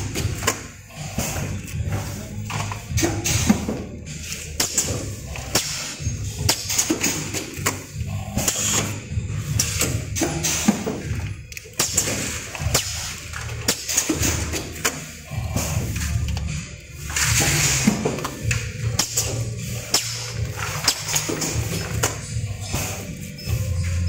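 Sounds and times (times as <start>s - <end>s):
machine humming: 0.0s - 24.0s
machine parts clacking and knocking: 0.0s - 24.0s.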